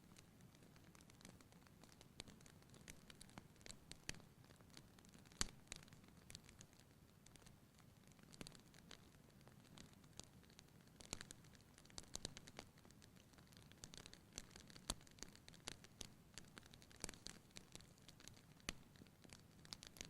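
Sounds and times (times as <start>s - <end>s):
soft low hiss: 0.0s - 20.0s
wood fire crackling: 0.0s - 20.0s.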